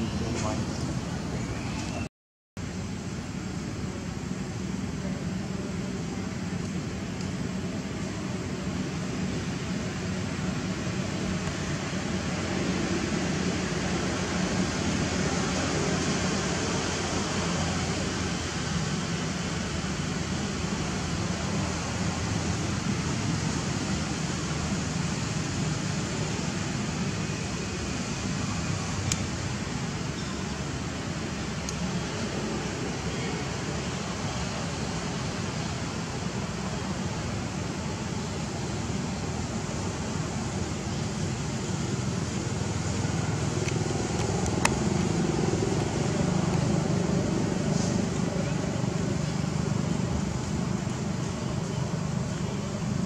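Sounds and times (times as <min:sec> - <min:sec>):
vehicle engine rumbling: 0:00.0 - 0:53.0
steady rushing noise: 0:02.6 - 0:53.0.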